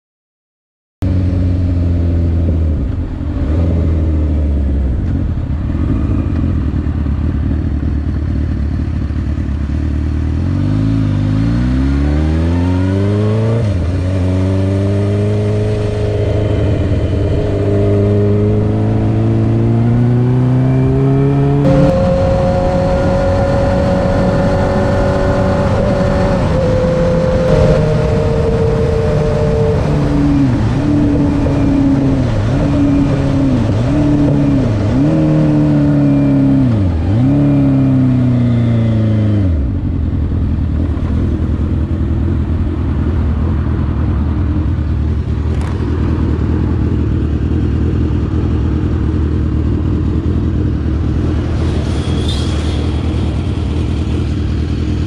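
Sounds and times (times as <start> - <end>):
motorcycle engine accelerating: 1.0 - 55.0.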